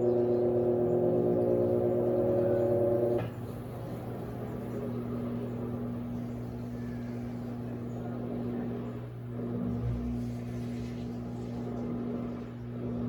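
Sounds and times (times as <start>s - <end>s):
quieter steady hum: 0.0s - 13.0s
washing machine motor humming: 0.0s - 13.0s.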